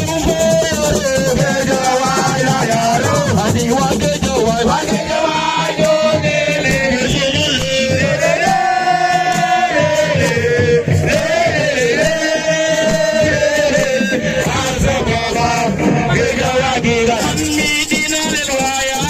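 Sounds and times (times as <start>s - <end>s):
hand drums: 0.0s - 19.0s
shaker: 0.0s - 19.0s.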